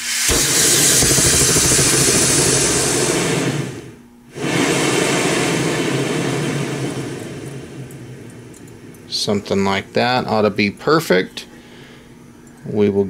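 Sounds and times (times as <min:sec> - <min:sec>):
gas stove burner hissing: 0:00.0 - 0:12.1.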